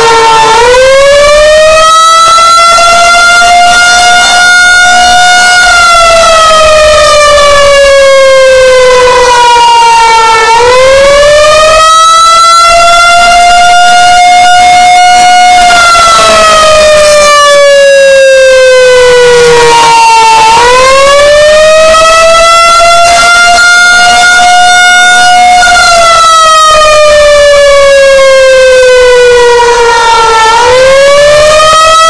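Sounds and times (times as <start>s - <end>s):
warning siren wailing: 0.0s - 32.0s.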